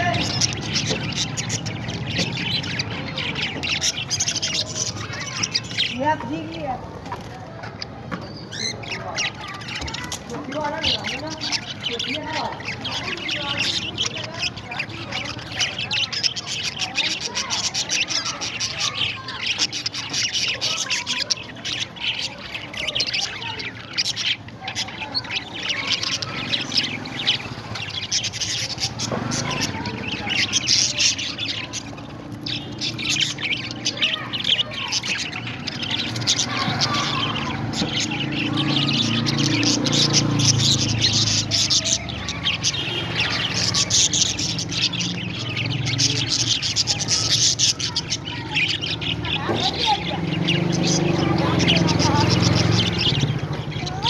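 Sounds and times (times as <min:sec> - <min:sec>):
parrots chirping and squawking: 0:00.0 - 0:54.0.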